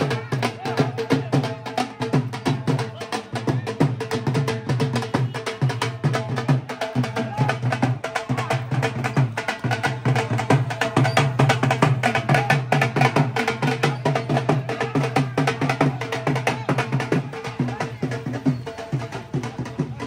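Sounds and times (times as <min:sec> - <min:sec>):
drums beaten with sticks: 0:00.0 - 0:20.0.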